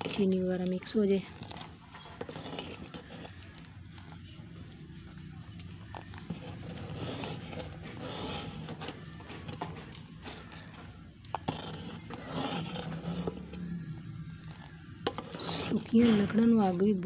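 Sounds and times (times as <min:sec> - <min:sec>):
spoon scraping steel pot: 0:00.0 - 0:17.0
wood fire crackling: 0:00.0 - 0:17.0.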